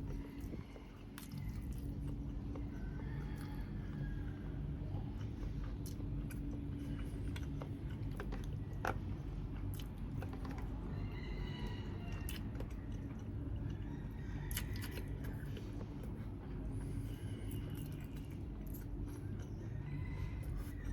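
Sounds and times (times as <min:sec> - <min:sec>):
person chewing: 0:00.0 - 0:03.8, 0:05.0 - 0:10.8, 0:12.2 - 0:13.8, 0:14.5 - 0:20.9
low background hum: 0:00.0 - 0:20.9.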